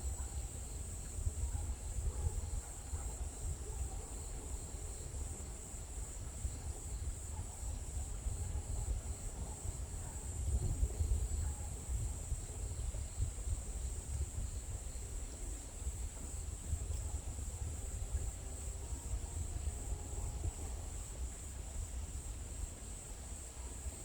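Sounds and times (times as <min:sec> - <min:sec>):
low wind rumble: 0:00.0 - 0:24.0.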